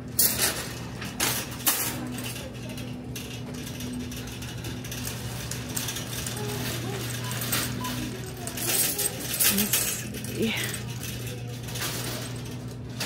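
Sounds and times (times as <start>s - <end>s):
shopping cart rattling: 0.0s - 13.0s.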